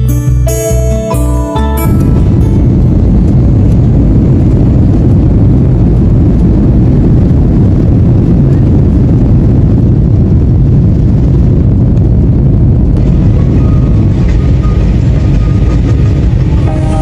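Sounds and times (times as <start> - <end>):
jet engines roaring in cabin: 1.6 - 17.0.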